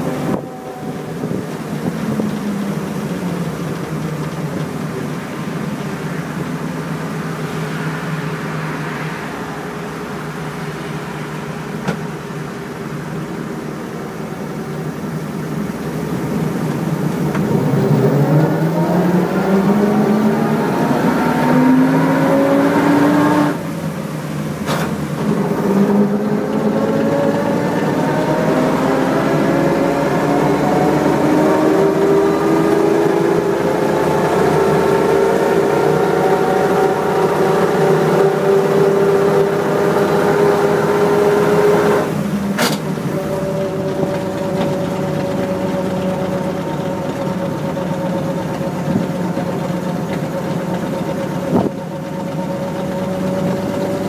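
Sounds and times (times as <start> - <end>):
road and wind noise hiss: 0.0 - 54.0
truck engine running: 0.0 - 54.0.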